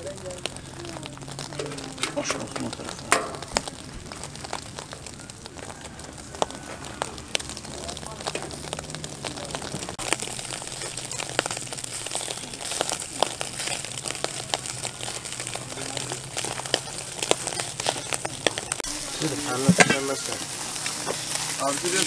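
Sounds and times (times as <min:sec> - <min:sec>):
food sizzling in hot fat: 0:00.0 - 0:22.0.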